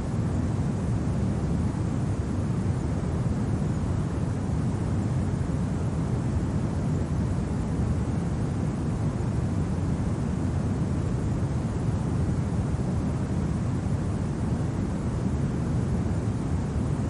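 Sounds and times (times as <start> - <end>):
low wind noise: 0.0 - 17.0.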